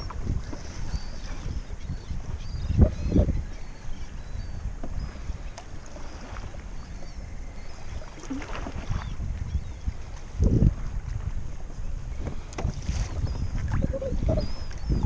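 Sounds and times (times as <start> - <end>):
waves splashing against a hull: 0.0 - 3.4, 4.4 - 15.0
wind buffeting the microphone: 0.0 - 15.0.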